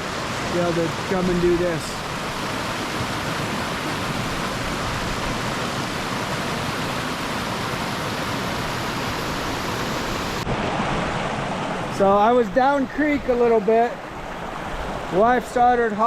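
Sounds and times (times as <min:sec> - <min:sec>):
creek rushing over rocks: 0:00.0 - 0:16.0.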